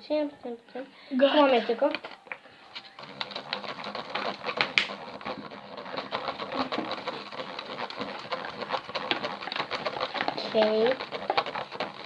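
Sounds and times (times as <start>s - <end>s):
utensil stirring glue in a bowl: 1.3s - 12.0s.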